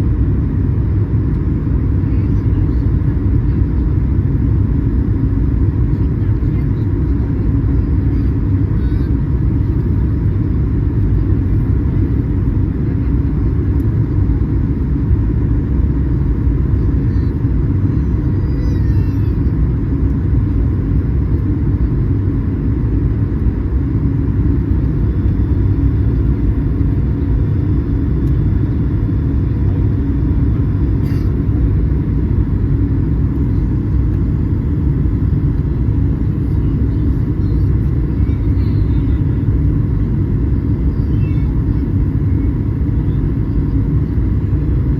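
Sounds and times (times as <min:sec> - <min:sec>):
airliner engines and airflow in cabin: 0:00.0 - 0:44.9.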